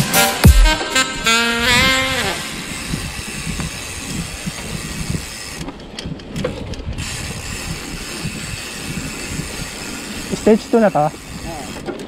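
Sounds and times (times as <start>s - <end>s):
bike rumbling and rattling: 0.0s - 12.0s.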